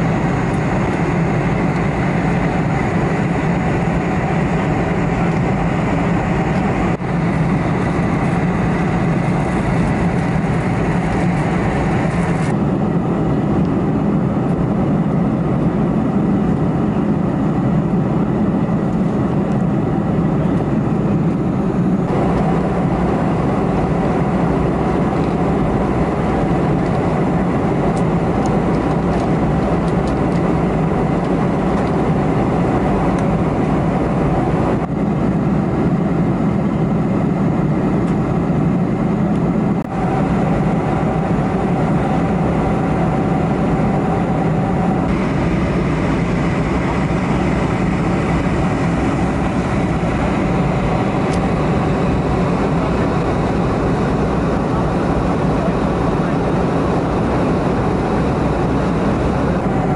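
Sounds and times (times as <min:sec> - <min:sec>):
airplane cabin engine rush: 0:00.0 - 0:59.9.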